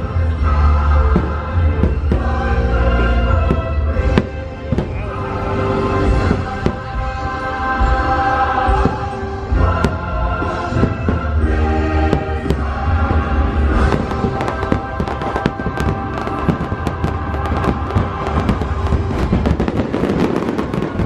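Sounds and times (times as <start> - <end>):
fireworks bursting and crackling: 0.0 - 8.0, 8.7 - 21.0
music with heavy bass: 0.0 - 21.0.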